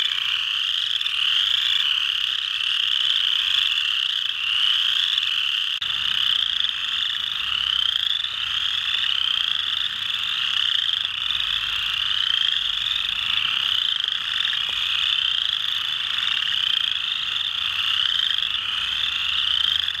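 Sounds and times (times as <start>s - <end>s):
dense frog chorus: 0.0s - 20.0s.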